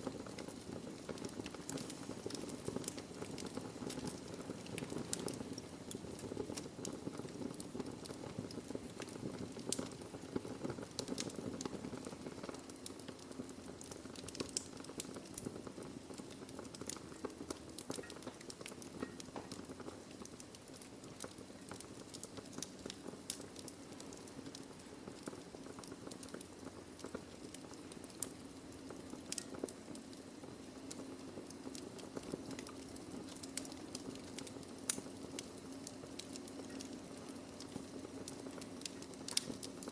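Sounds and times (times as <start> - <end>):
low rushing hiss of fire: 0.0 - 39.9
wood fire crackling and popping: 0.0 - 39.9.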